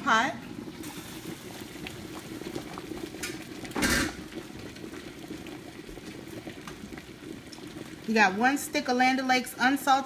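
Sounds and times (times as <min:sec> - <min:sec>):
water boiling in a pot: 0:00.0 - 0:10.0.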